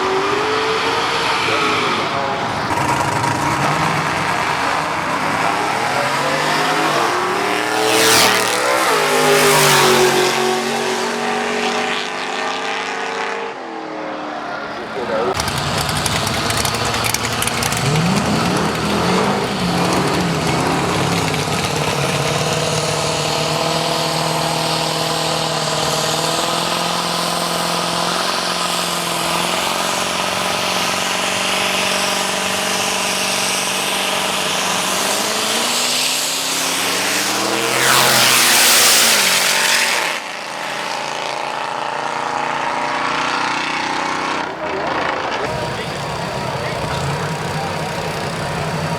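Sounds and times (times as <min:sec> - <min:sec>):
drag racing engines revving: 0:00.0 - 0:48.9.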